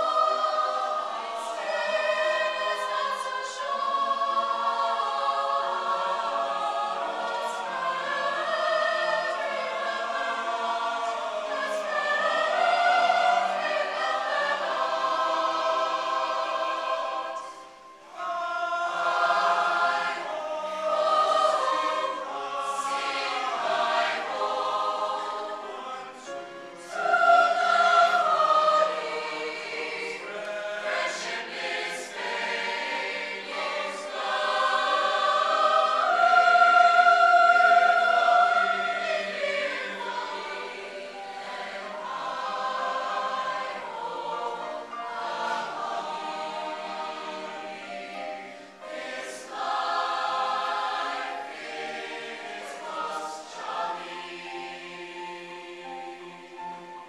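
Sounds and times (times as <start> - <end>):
chamber choir singing: 0.0 - 57.0.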